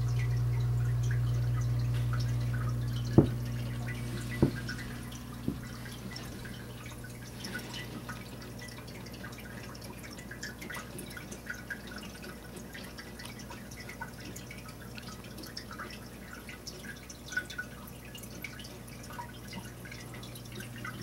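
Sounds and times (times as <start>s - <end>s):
filter pump hum: 0.0s - 21.0s
water dripping and trickling: 0.0s - 21.0s.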